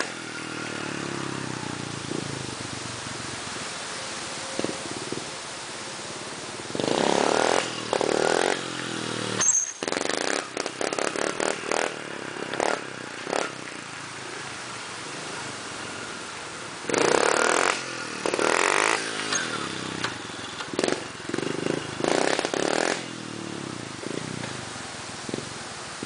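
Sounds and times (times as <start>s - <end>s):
dirt bike engine revving: 0.0s - 2.5s, 6.6s - 25.5s.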